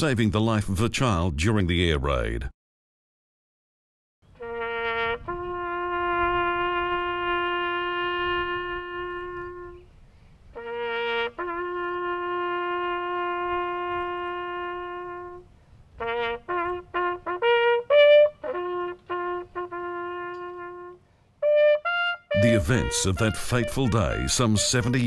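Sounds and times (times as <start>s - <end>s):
brass horn playing a bugle call: 4.3s - 25.0s.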